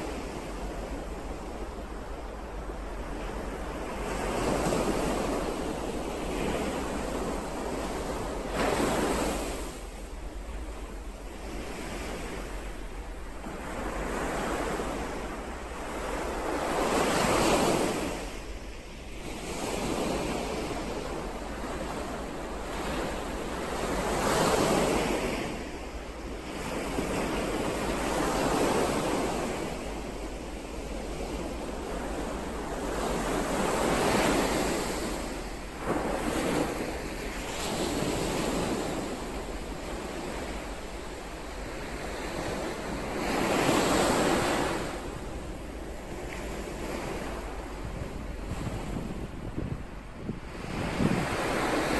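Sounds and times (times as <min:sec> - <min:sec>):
ocean waves breaking: 0:00.0 - 0:51.9.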